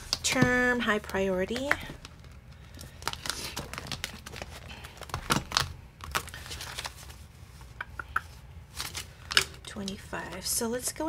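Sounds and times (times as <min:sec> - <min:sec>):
paper and plastic rustling: 0:00.0 - 0:07.8, 0:08.7 - 0:10.5.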